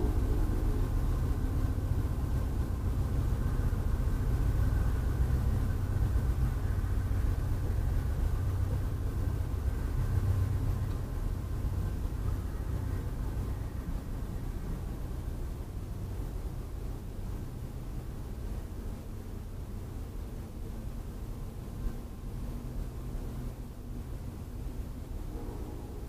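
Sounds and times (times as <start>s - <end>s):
passenger train rolling past: 0.0s - 26.0s.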